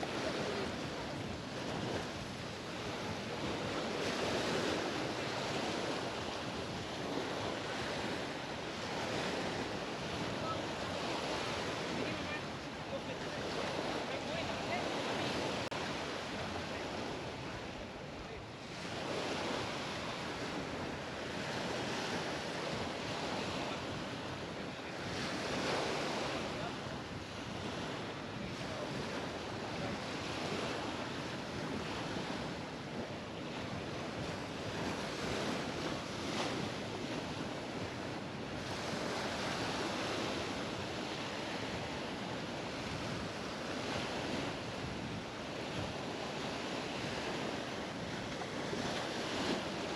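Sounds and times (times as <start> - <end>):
sea waves breaking on beach: 0.0 - 49.9
wind on microphone: 0.0 - 49.9.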